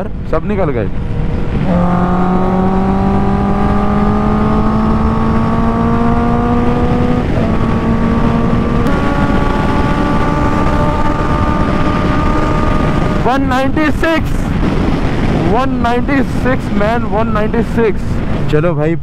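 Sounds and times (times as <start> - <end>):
motorcycle engine accelerating: 0.8 - 16.7
wind rush: 0.9 - 18.5.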